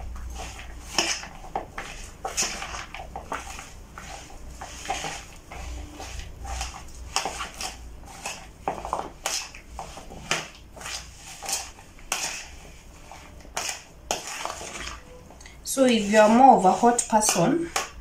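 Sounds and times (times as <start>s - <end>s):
utensil scraping plastic bowl: 0.1s - 18.0s.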